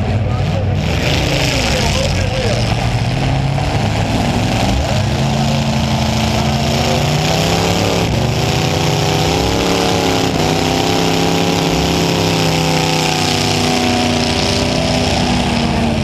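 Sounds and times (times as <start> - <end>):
car engine running hard: 0.0 - 16.0.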